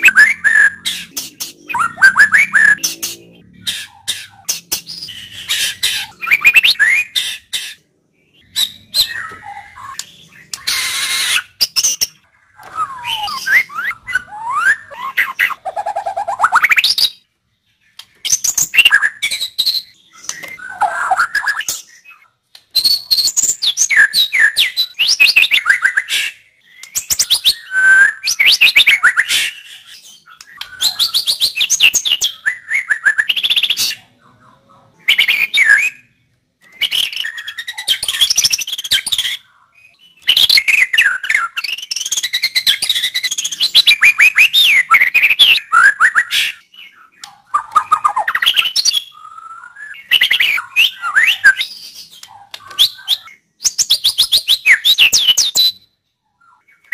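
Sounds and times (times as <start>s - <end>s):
bird singing whistled phrases: 0.0s - 3.8s, 4.4s - 7.5s, 8.4s - 17.2s, 22.8s - 34.0s, 35.0s - 56.9s.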